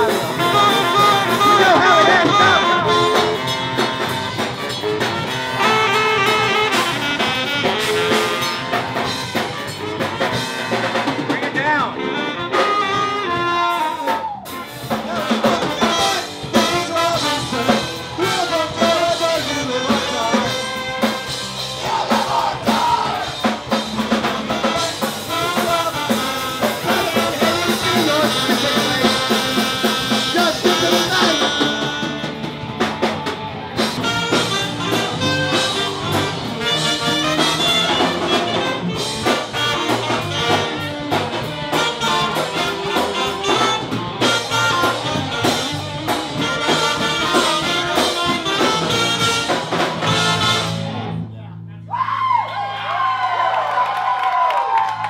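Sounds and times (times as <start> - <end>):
live band with saxophone and brass: 0.0 - 51.3.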